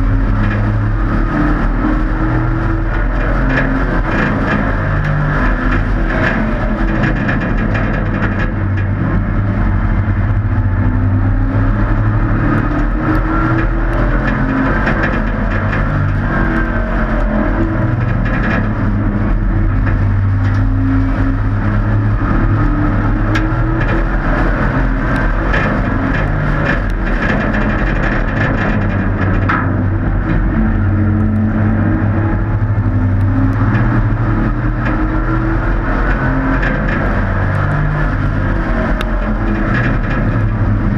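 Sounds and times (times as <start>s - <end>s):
race truck engines revving: 0.0s - 40.9s.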